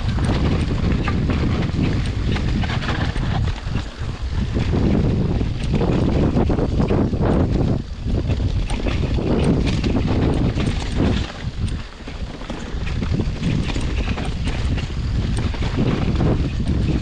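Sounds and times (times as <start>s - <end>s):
bicycle rolling noise: 0.0s - 17.0s
small rattles and bumps: 0.0s - 17.0s
wind rushing over microphone: 0.0s - 17.0s.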